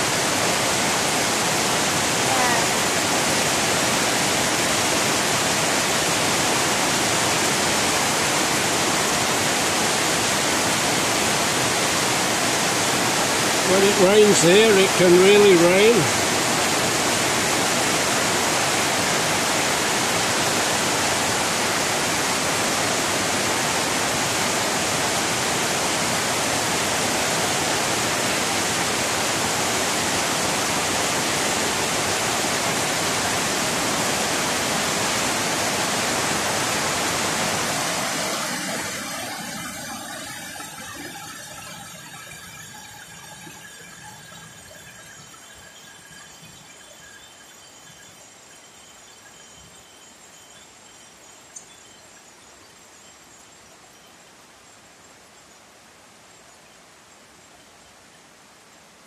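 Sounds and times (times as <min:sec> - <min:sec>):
heavy rain pouring: 0:00.0 - 0:49.5.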